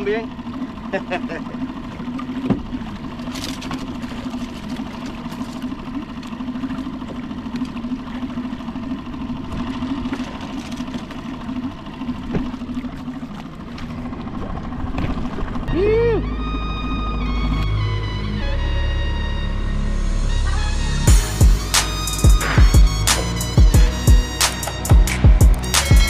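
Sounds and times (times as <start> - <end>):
outboard motor humming: 0.0 - 26.0.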